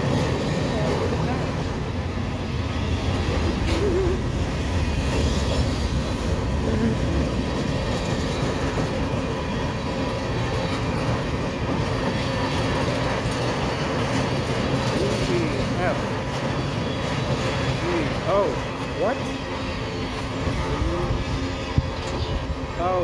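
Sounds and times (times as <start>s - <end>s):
freight cars rumbling on rails: 0.0s - 23.0s.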